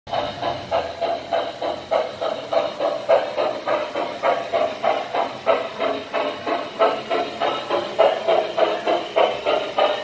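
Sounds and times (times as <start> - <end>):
model steam locomotive chuffing: 0.1 - 10.0.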